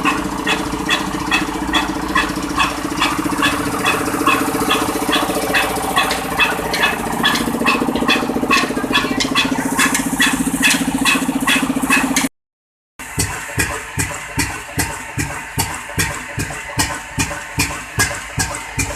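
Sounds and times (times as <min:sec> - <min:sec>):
diesel engine knocking: 0:00.0 - 0:12.3, 0:13.0 - 0:18.9.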